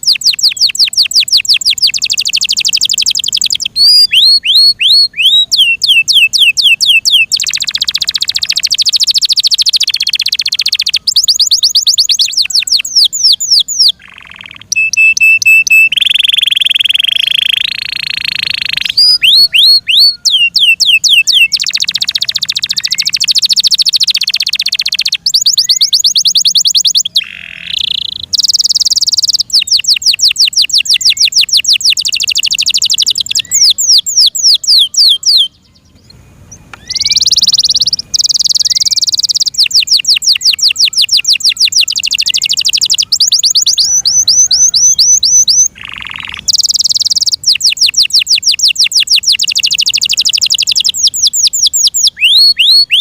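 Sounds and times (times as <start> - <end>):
canary singing: 0.0 - 53.0.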